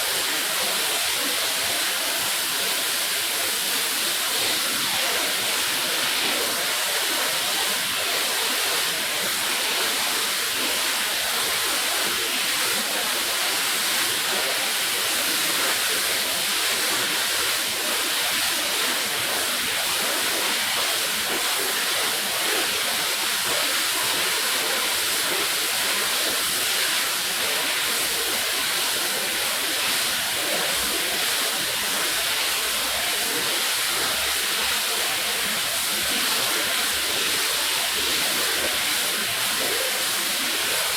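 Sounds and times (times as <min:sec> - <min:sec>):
water spraying onto a rug: 0:00.1 - 0:40.9.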